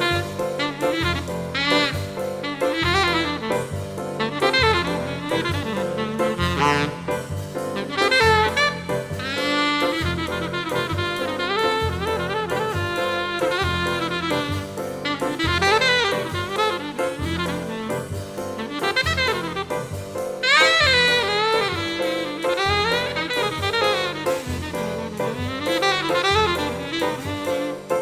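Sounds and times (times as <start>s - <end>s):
drum kit: 0.0s - 28.0s
saxophone melody: 0.0s - 28.0s.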